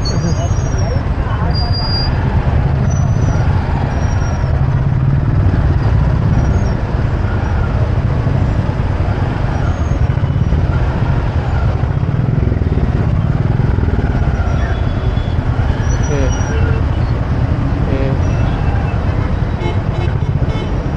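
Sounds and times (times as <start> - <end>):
road and traffic noise: 0.0 - 20.9
motorcycle engine running: 2.3 - 20.9.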